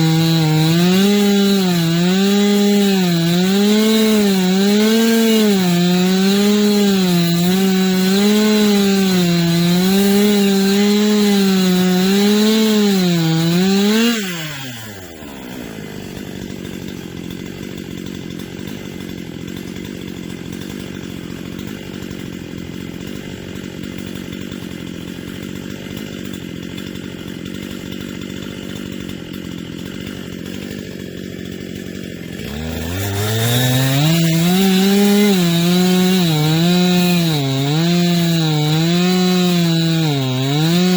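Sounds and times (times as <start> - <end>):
chainsaw engine revving and idling: 0.0 - 40.9.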